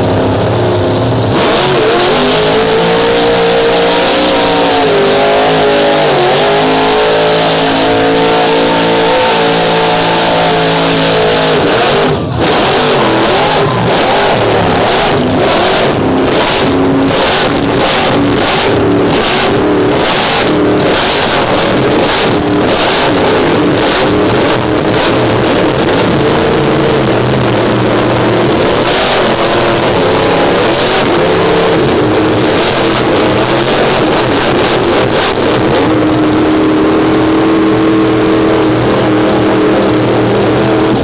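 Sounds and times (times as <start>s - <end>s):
truck engine revving hard: 0.0s - 41.0s.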